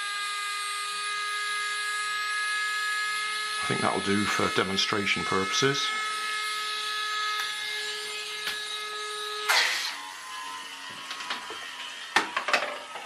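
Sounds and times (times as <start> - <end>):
toy boat motor whining: 0.0 - 13.0.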